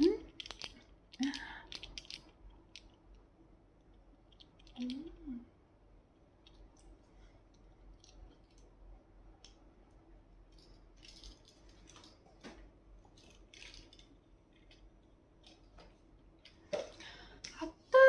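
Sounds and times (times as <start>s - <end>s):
faint clicks and rustles: 0.0s - 5.5s, 6.1s - 17.7s
low room hum: 0.0s - 18.0s.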